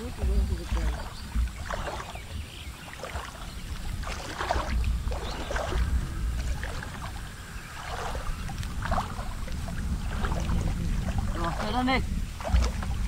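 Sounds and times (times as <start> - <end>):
shallow water splashing: 0.0 - 13.0
steady low rumble: 0.0 - 13.0.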